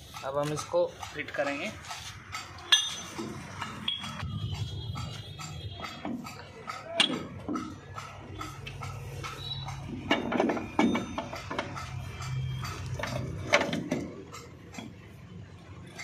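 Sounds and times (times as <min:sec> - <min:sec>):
metal clinks and knocks: 0:02.2 - 0:15.1.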